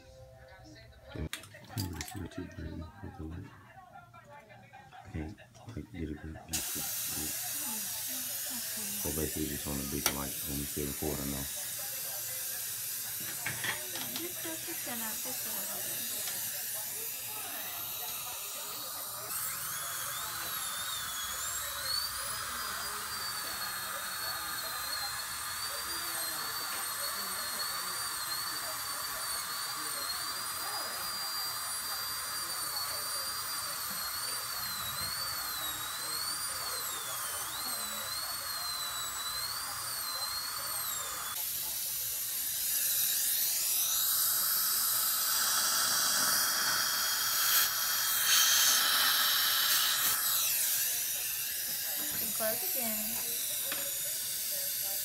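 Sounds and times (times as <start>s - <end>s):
dental drill whining: 6.0s - 55.0s.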